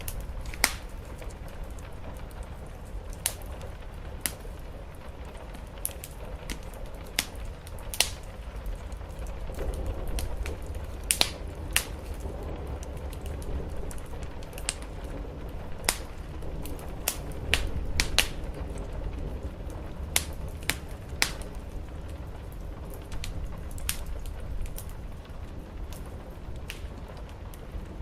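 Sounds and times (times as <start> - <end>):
rain hissing: 0.0 - 28.0
wood fire crackling: 0.0 - 28.0.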